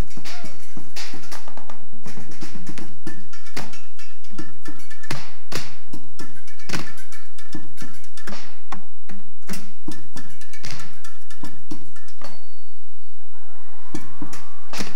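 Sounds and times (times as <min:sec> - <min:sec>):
drumsticks beating cans and barrels: 0:00.0 - 0:12.5, 0:14.0 - 0:14.9.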